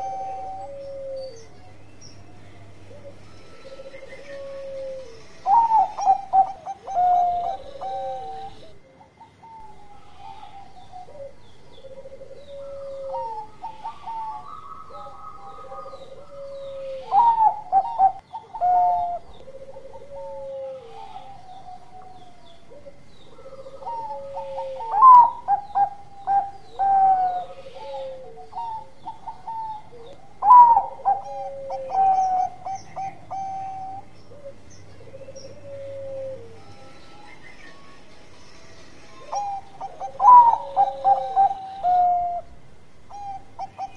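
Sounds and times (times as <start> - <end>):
dove cooing: 0.0 - 38.2, 39.0 - 43.9.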